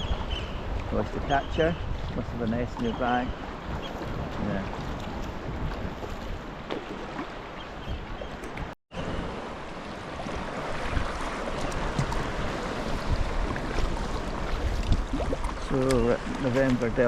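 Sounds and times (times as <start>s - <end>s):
sea water splashing around kayak: 0.0s - 17.0s
waves breaking: 0.0s - 17.0s.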